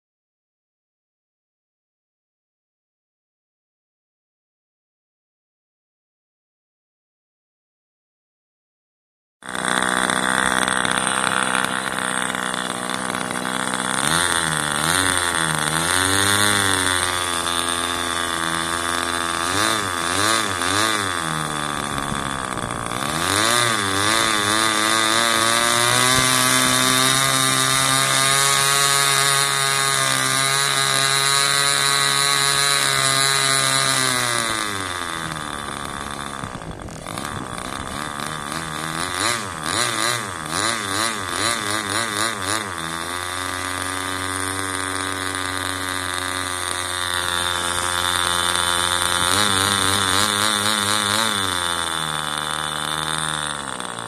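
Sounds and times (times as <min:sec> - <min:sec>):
two-stroke engine revving: 0:09.4 - 0:54.0.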